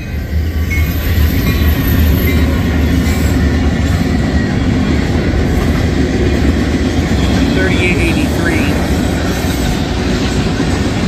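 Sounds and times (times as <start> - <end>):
diesel locomotive engine drone: 0.0 - 11.0
steel wheels on rail: 0.0 - 11.0.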